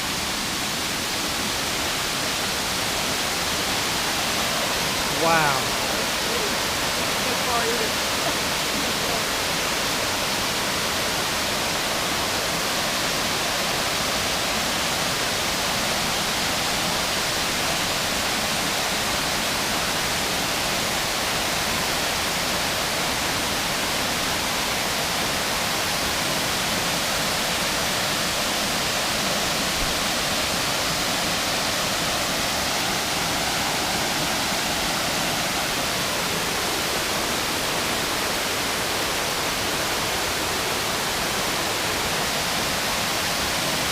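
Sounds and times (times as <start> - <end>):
waterfall cascading into creek: 0.0 - 43.9.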